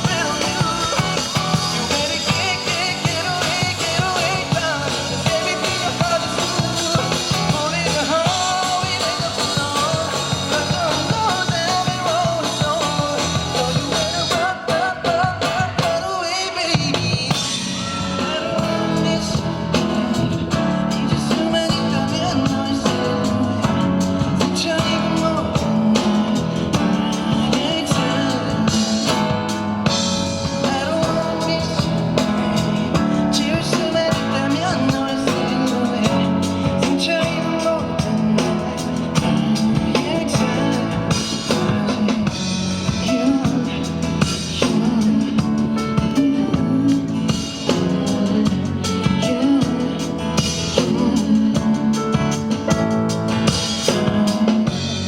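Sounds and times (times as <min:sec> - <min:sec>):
drum kit: 0:00.0 - 0:55.0
guitar: 0:00.0 - 0:55.0
live rock-pop band: 0:00.0 - 0:55.0.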